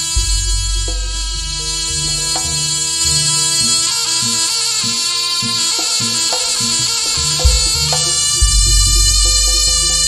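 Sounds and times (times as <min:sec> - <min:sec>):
deep drum strokes: 0:00.0 - 0:10.0
reedy wind instrument melody: 0:00.0 - 0:10.0.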